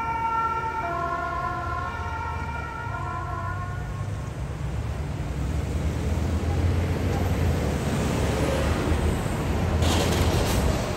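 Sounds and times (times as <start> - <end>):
road traffic rumble: 0.0 - 10.9.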